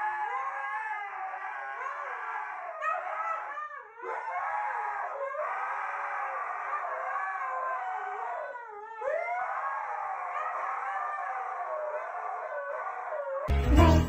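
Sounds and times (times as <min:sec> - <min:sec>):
husky howling: 0:00.0 - 0:13.5.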